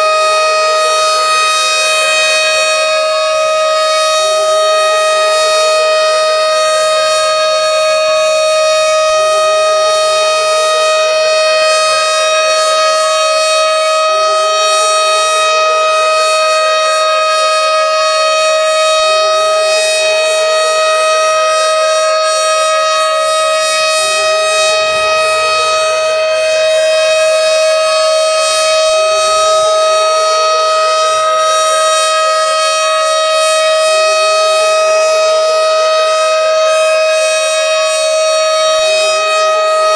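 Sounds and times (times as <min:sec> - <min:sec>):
rising siren sweep: 0:00.0 - 0:39.9
tornado siren steady tone: 0:00.0 - 0:39.9.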